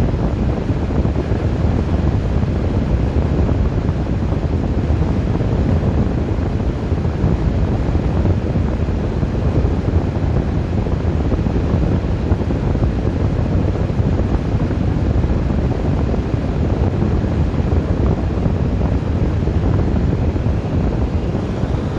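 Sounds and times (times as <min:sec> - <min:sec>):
strong wind buffeting: 0:00.0 - 0:21.9.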